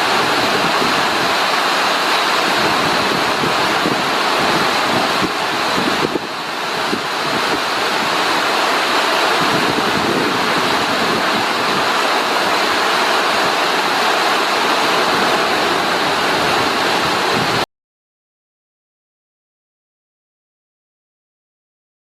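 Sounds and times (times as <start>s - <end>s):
heavy rain pouring: 0.0s - 17.7s.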